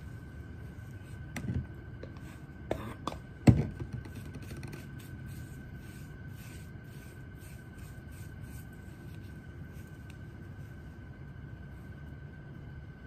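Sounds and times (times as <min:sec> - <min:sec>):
faint high whine: 0:00.0 - 0:13.0
low room hum: 0:00.0 - 0:13.0.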